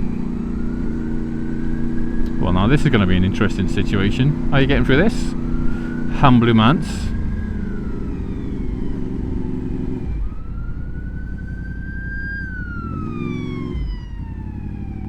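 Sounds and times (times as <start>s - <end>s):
ambulance siren wailing: 0.0s - 15.0s
motorcycle engine running: 0.0s - 15.0s.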